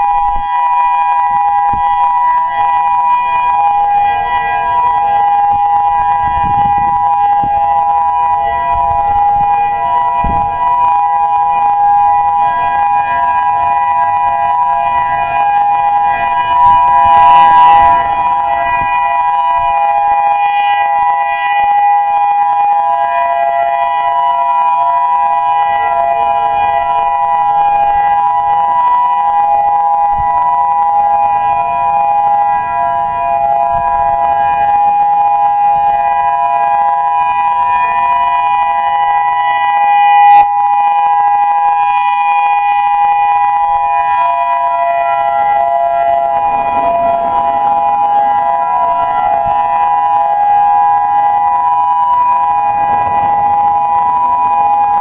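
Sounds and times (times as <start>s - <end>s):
two-pitch warning siren: 0.0s - 55.0s.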